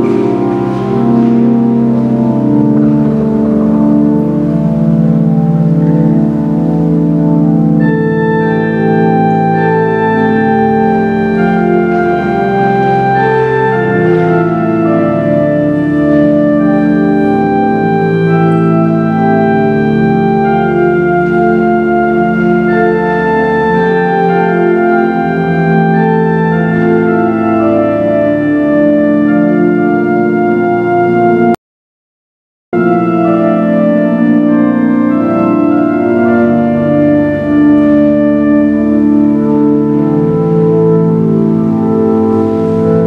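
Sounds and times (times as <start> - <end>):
church organ chords: 0.0 - 31.6, 32.8 - 43.0.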